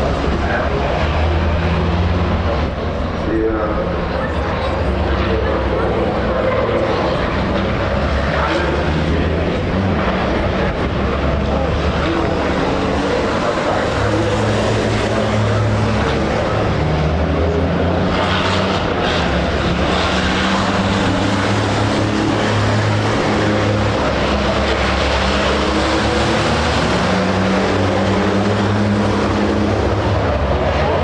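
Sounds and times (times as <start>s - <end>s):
truck engines roaring: 0.0s - 31.0s.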